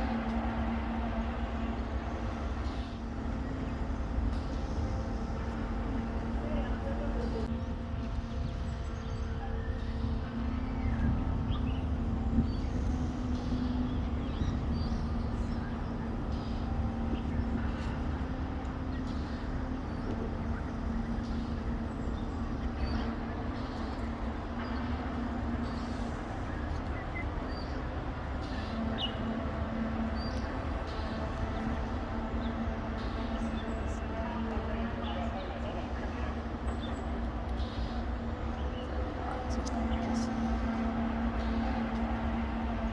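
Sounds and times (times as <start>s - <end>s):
city traffic rumble: 0.0s - 42.9s
constant hum: 0.0s - 42.9s.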